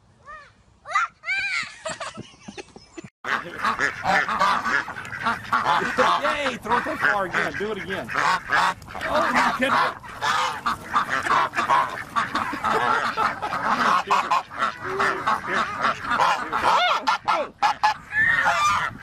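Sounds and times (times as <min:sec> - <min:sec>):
ducks quacking: 0:03.2 - 0:19.0.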